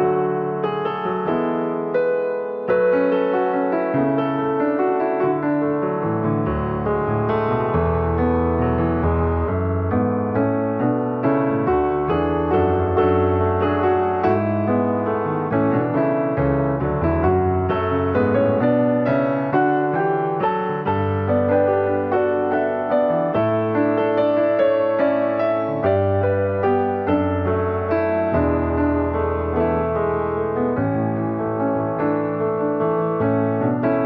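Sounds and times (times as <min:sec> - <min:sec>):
piano playing: 0:00.0 - 0:34.0.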